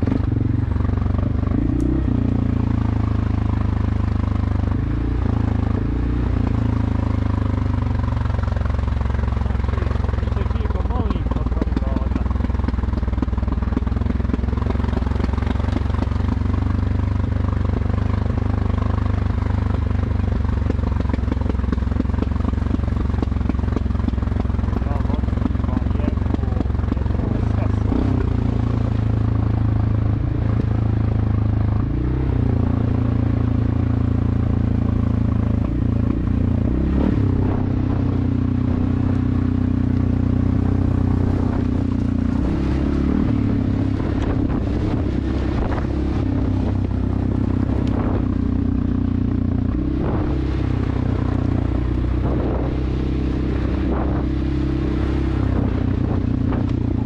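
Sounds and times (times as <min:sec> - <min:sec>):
engine revving under load: 0:00.0 - 0:17.0, 0:20.0 - 0:57.0.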